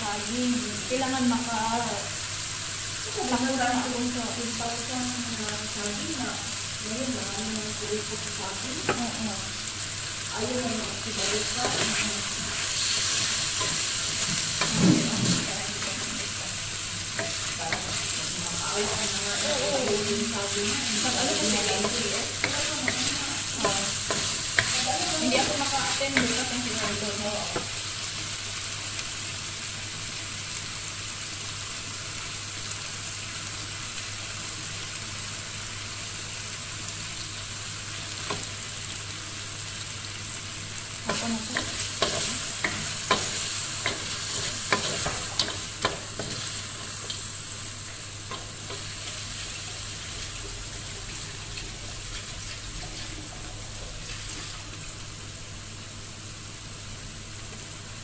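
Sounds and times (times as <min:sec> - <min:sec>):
food sizzling in a wok: 0:00.0 - 0:58.0.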